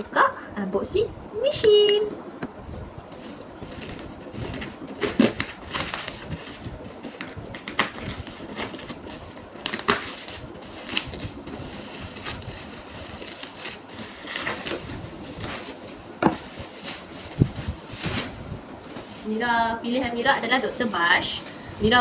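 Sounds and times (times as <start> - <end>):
packaging rustling and crinkling: 3.1 - 22.0.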